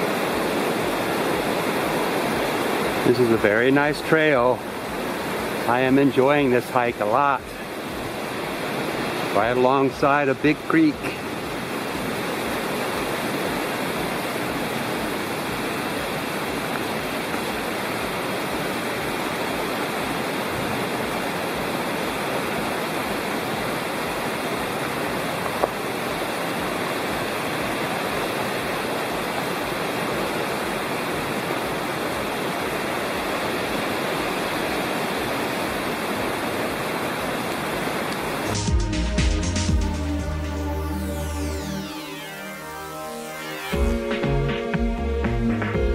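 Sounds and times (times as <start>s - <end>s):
rushing creek water: 0.0s - 45.9s.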